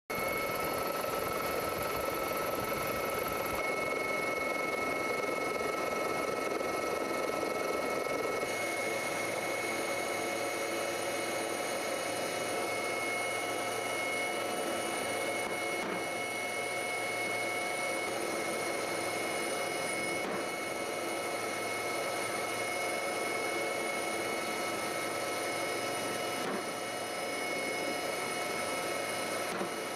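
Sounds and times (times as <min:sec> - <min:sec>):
helicopter turbine engine whining: 0:00.1 - 0:29.9.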